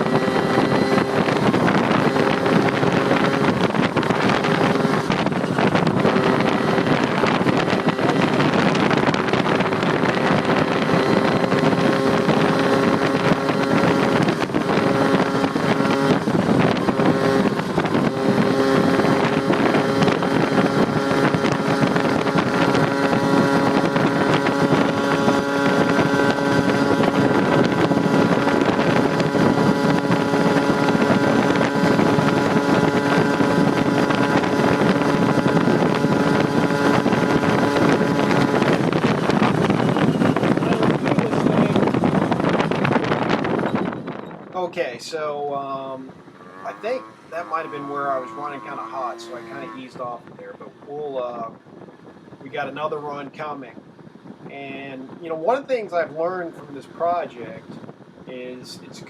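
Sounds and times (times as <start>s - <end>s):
two-stroke engine revving high: 0.0s - 50.2s
wind rushing over microphone: 0.0s - 59.0s.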